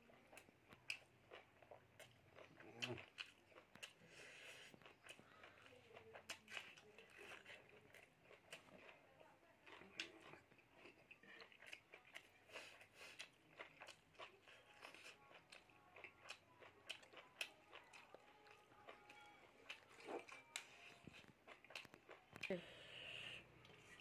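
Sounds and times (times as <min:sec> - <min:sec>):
person chewing food: 0:00.1 - 0:24.0.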